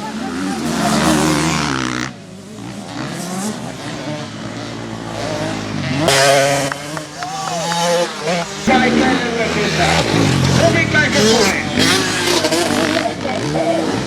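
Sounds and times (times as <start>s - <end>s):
motocross bike engines racing: 0.0s - 14.0s
motorbike engine revving: 0.0s - 14.0s.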